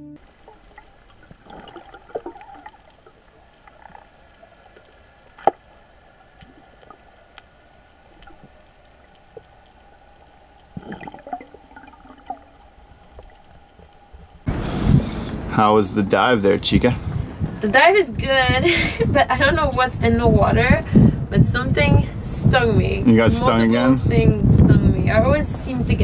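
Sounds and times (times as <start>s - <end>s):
muffled underwater hush: 0.2s - 26.0s.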